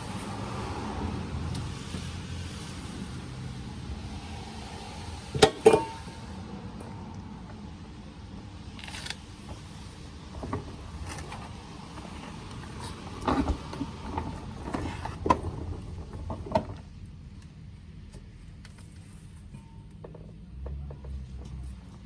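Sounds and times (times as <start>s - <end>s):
low workshop hum: 0.0s - 22.0s.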